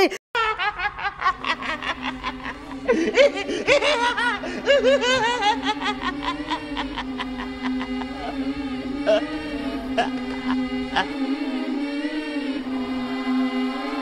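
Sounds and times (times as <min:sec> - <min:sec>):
man laughing wildly: 0:00.0 - 0:11.4
low drone: 0:00.8 - 0:14.0.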